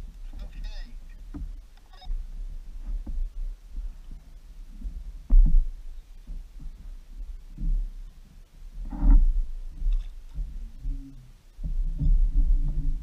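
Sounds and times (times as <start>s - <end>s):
kayak hull thumps and rumble: 0.0s - 13.0s.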